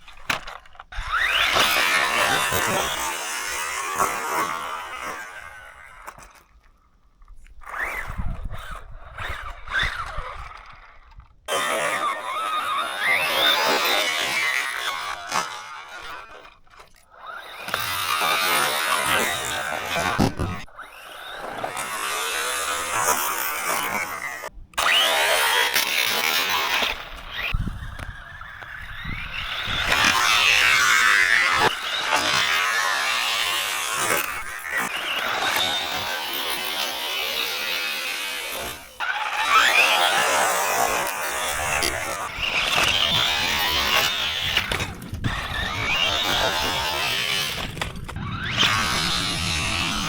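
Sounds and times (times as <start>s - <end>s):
rc car motor whining: 0.0s - 50.0s
tyre and ground noise: 0.0s - 50.0s.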